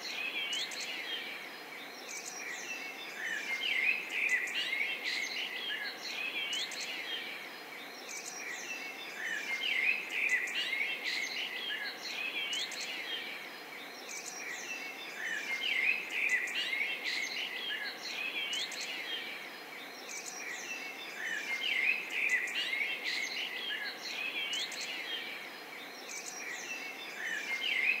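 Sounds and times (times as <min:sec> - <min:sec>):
songbirds chirping: 0:00.0 - 0:28.0
steady background hiss: 0:00.0 - 0:28.0.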